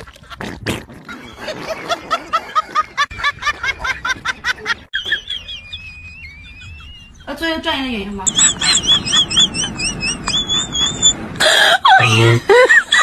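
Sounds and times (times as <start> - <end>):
person snickering laughter: 1.1 - 7.1, 8.3 - 13.0.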